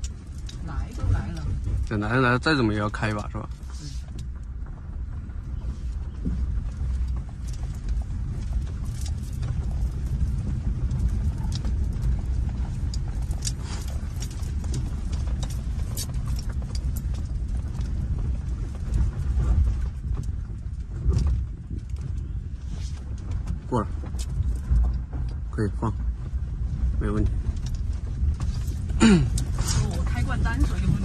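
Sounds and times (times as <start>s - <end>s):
engine and tyre rumble: 0.0s - 31.0s
stones knocking under tyres: 2.6s - 31.0s.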